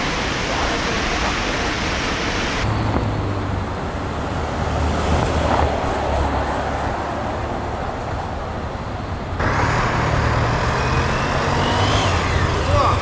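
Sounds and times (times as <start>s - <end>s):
city traffic: 0.0s - 13.0s
suv engine hum and tyre noise: 2.2s - 13.0s.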